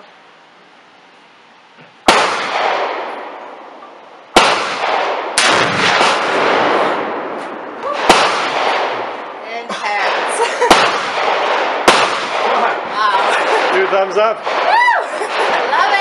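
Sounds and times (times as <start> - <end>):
rifle shots with long echoes: 2.0 - 16.0.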